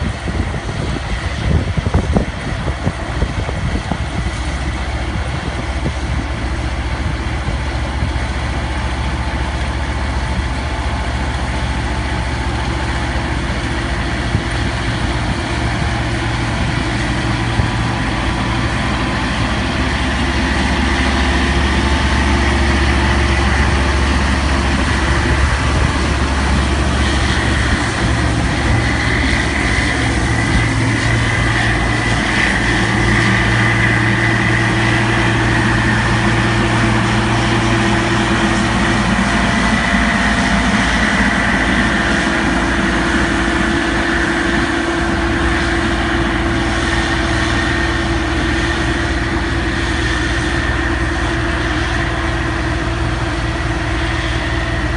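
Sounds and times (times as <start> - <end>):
diesel farm machinery running: 0.0 - 54.9
steady high whine: 0.0 - 54.9.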